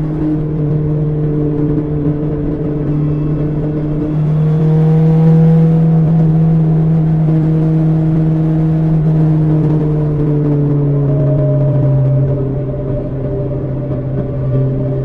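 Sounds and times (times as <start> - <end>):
motorcycle engine revving while riding: 0.0 - 15.0.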